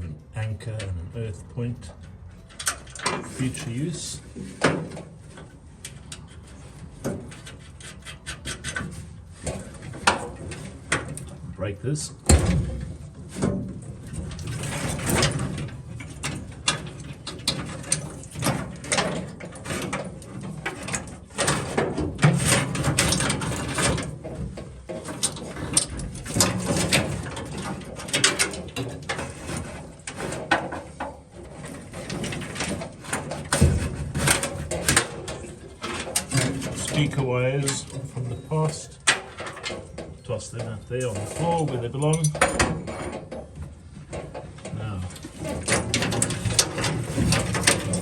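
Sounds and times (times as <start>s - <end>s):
clicking and scraping of wiring: 1.6s - 48.0s.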